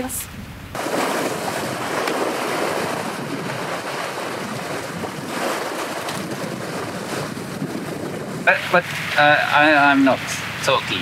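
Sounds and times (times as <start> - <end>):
wind: 0.0 - 11.0
ocean waves: 0.8 - 11.0.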